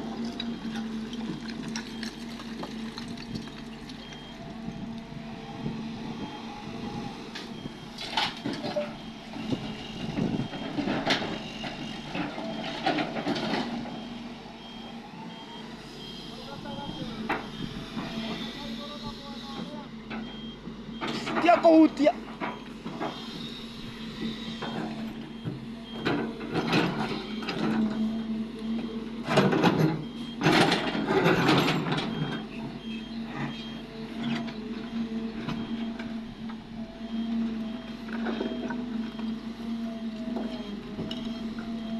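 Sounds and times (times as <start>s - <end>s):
heavy diesel machinery running: 0.0s - 41.9s
reversing alarm beeps: 0.3s - 41.9s.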